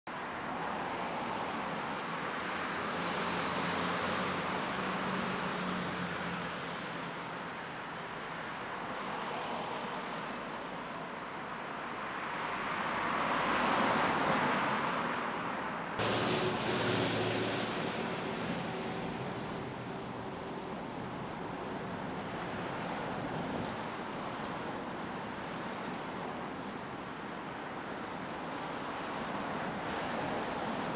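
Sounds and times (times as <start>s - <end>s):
wind: 0.0s - 30.9s
cars passing on street: 0.1s - 30.9s.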